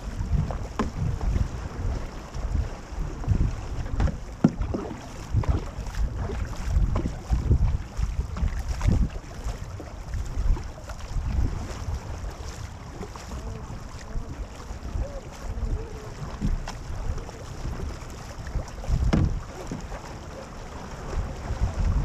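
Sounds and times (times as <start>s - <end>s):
paddle strokes splashing: 0.0s - 22.0s
water running along hull: 0.0s - 22.0s
wind buffeting microphone: 0.0s - 22.0s.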